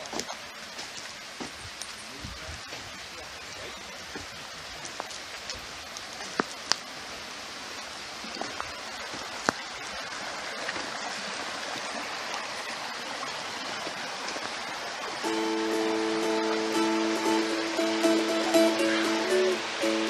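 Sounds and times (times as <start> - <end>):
creek flowing over stones: 0.0 - 20.0.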